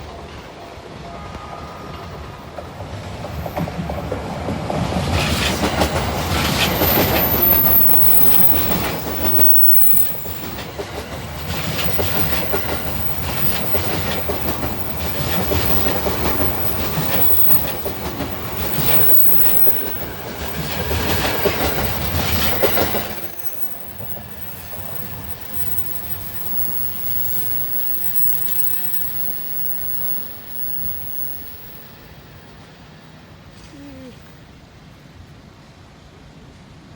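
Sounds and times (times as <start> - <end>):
electric train passing: 0.0 - 33.5
wheels clicking over rail joints: 2.6 - 32.2.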